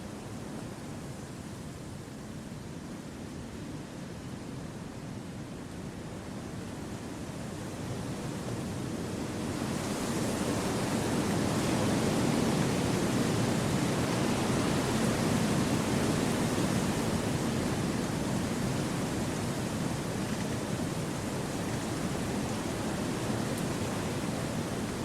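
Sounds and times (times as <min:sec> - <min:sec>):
wind through trees: 0:00.0 - 0:25.0.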